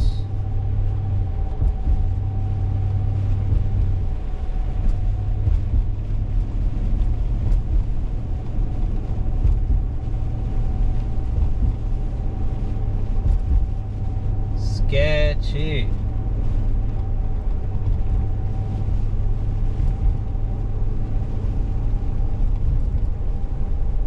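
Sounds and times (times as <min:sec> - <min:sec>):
car engine and tyres rumbling: 0:00.0 - 0:24.0
thin steady whine: 0:00.0 - 0:24.0.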